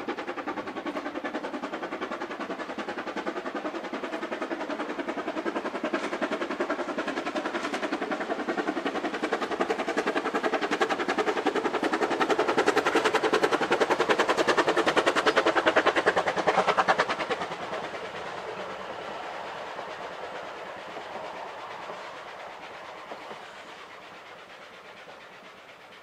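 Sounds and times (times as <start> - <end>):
steam locomotive chuffing: 0.0 - 26.0
train passing: 0.0 - 26.0.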